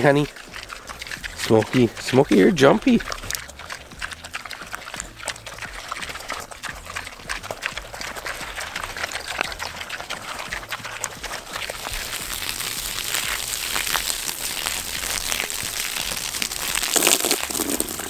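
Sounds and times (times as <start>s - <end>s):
pigs chewing and slurping: 0.0s - 18.0s
small irregular clicks: 0.1s - 18.0s.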